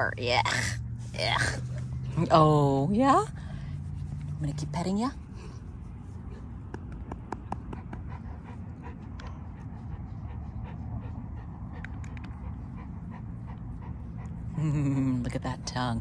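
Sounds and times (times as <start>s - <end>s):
dog panting: 0.5s - 16.0s.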